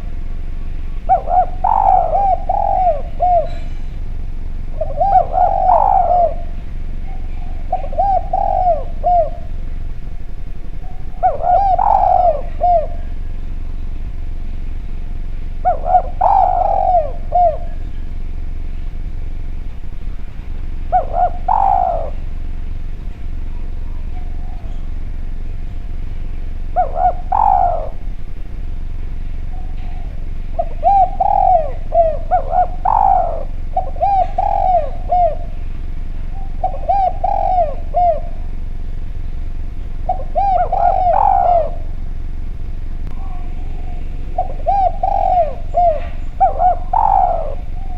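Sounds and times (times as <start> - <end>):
dove cooing: 0.0 - 47.9
low hum: 0.0 - 47.9.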